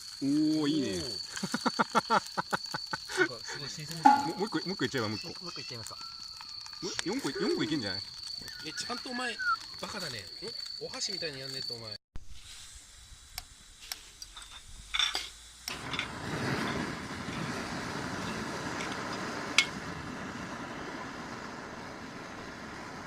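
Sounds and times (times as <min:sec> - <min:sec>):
food sizzling in frying pan: 0:00.0 - 0:23.0.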